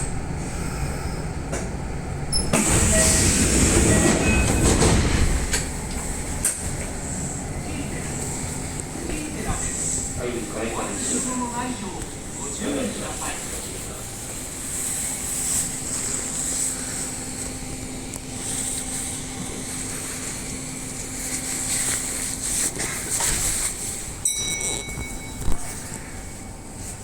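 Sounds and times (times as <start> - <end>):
railway background noise: 0.0 - 27.0.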